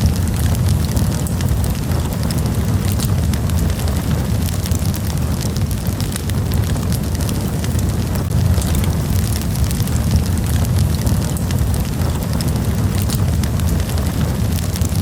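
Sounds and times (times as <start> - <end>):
campfire flames rumbling: 0.0 - 15.0
fire crackling and popping: 0.0 - 15.0.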